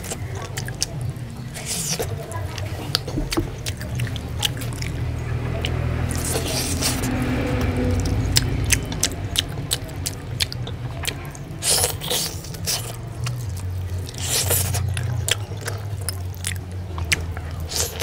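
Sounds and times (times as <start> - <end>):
steady low hum: 0.0 - 17.7
squelching sounds: 0.0 - 18.0
wet chewing and lip-smacking: 0.0 - 18.0.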